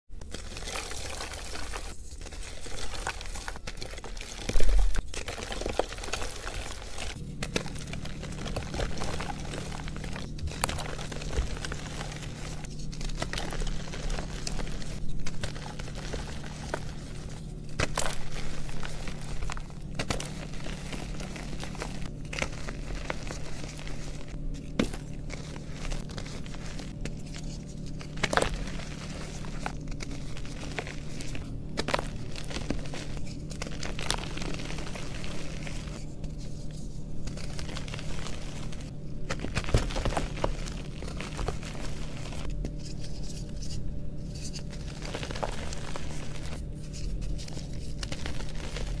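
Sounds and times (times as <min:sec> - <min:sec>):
low steady hum: 0:00.1 - 0:49.0
chalk crunching and crumbling: 0:00.2 - 0:49.0.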